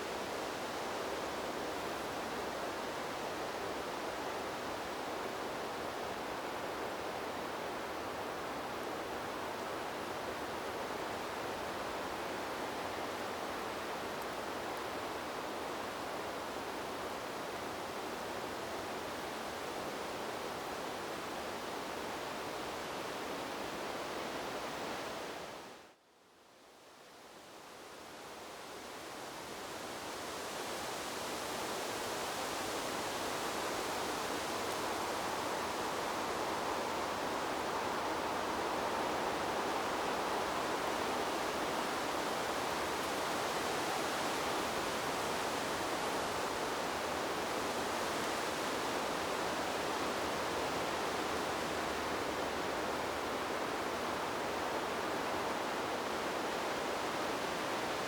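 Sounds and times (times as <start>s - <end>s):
wind blowing through trees: 0.0s - 58.0s.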